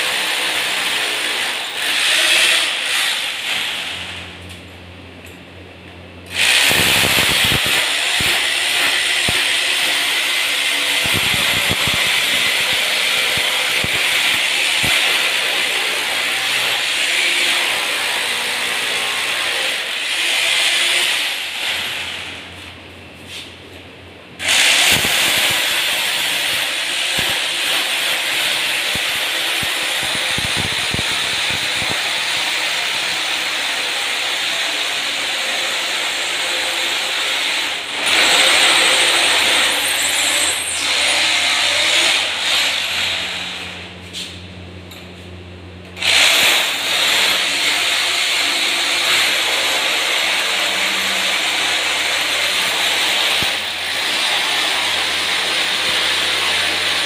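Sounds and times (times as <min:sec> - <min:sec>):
electric drill boring into wall: 0:00.0 - 0:04.3, 0:06.3 - 0:22.4, 0:24.4 - 0:43.9, 0:46.0 - 0:57.0.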